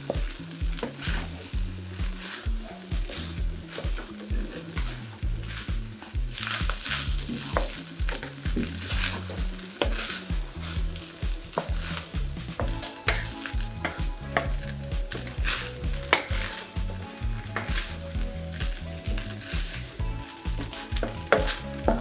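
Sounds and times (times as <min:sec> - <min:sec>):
rice sizzling in a frying pan: 0:00.0 - 0:22.0.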